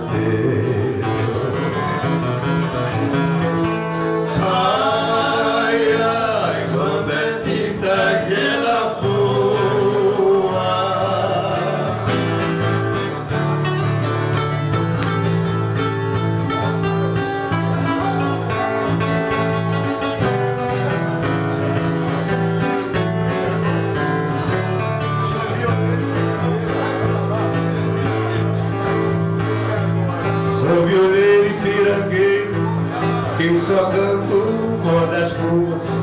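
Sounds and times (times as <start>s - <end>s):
acoustic guitars strummed and picked: 0.0s - 36.0s.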